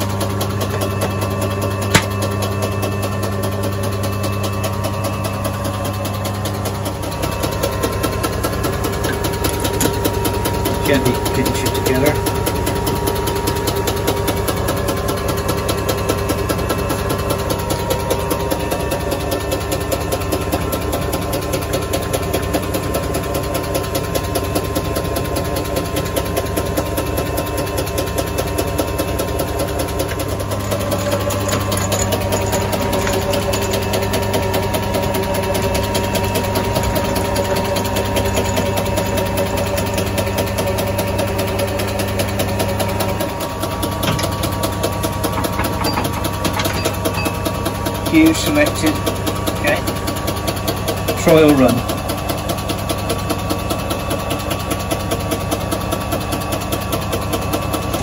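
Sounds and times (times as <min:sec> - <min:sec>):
lathe motor hum and whine: 0:00.0 - 0:58.0.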